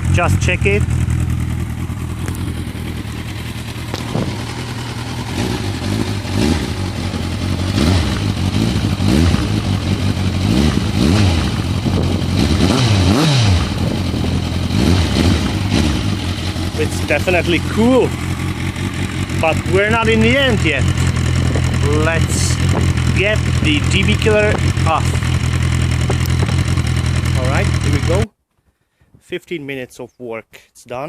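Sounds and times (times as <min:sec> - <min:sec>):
motorcycle engine idling and revving: 0:00.0 - 0:28.3.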